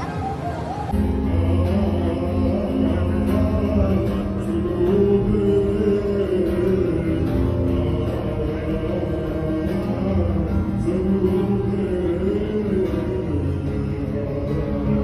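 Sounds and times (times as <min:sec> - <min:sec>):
electric guitar: 0:00.9 - 0:15.0
low bass: 0:00.9 - 0:15.0
man singing: 0:00.9 - 0:15.0.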